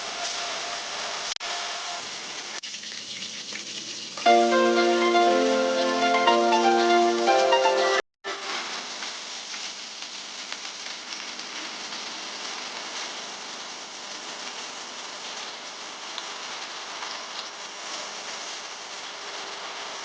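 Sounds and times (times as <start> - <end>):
food sizzling in hot oil: 0.1 - 6.5, 7.2 - 20.0.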